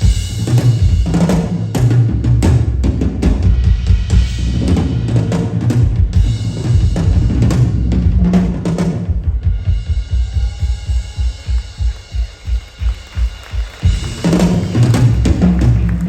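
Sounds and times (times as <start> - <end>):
drum and percussion hits: 0.0 - 16.0
heavy bass drum beat: 0.0 - 16.0.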